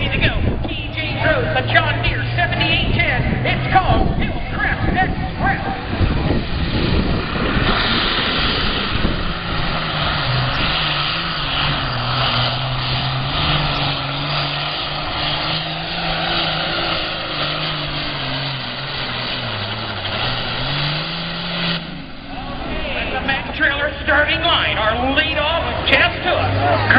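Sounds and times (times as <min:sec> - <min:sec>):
tractor diesel engine under load: 0:00.0 - 0:26.9.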